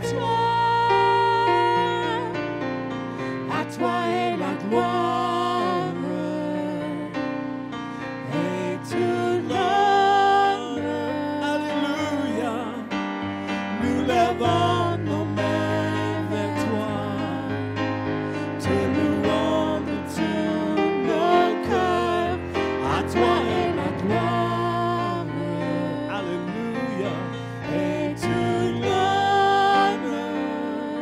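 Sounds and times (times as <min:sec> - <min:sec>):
woman and man singing worship song: 0:00.0 - 0:02.4, 0:03.2 - 0:07.3, 0:08.0 - 0:31.0
instrumental backing: 0:00.0 - 0:31.0.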